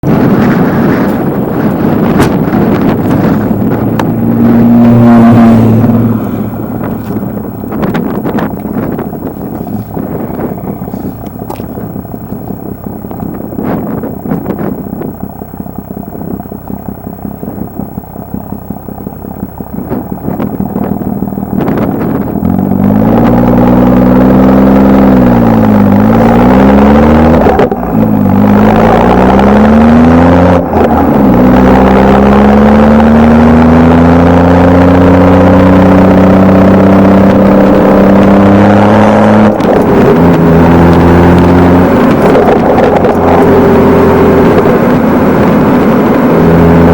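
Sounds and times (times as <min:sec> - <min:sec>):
car engine exhaust accelerating: 0:00.0 - 0:46.9.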